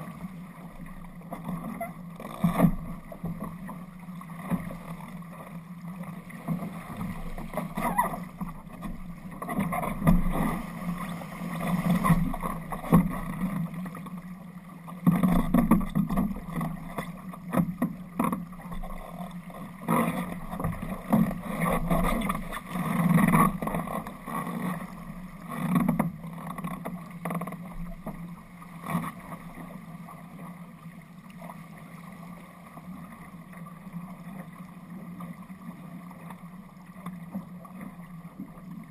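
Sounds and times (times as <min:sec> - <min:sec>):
water rushing along boat hull: 0:00.0 - 0:38.9.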